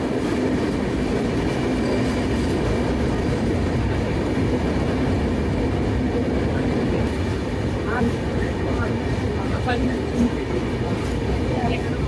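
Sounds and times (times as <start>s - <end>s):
train wheels rumbling in tunnel: 0.0s - 12.0s.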